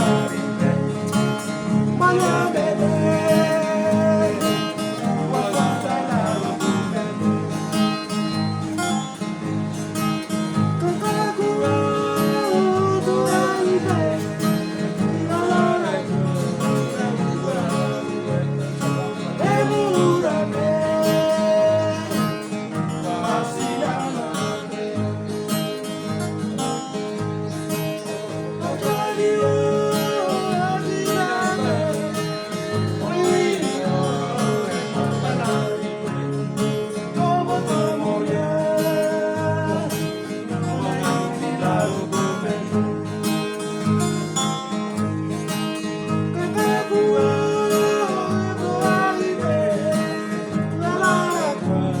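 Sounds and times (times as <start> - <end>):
acoustic guitars strumming: 0.0 - 52.0
voices singing: 0.0 - 52.0.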